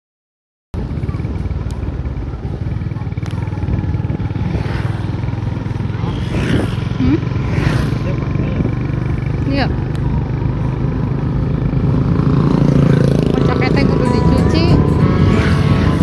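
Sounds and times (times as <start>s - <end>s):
motor scooter engine running: 0.8s - 16.0s.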